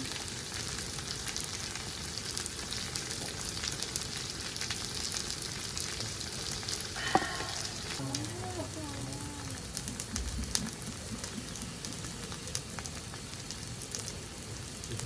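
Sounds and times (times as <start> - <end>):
food sizzling in hot fat: 0.0 - 15.0.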